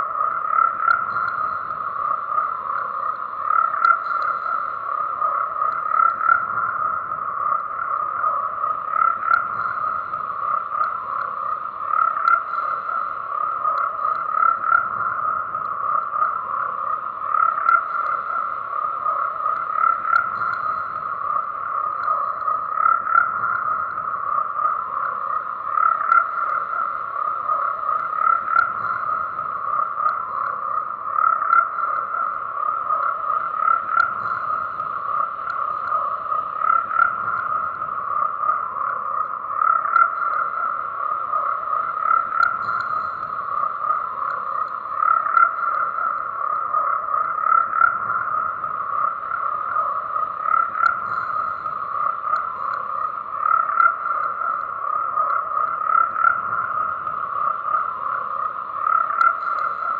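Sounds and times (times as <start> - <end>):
chorus of frogs croaking: 0.0 - 59.9.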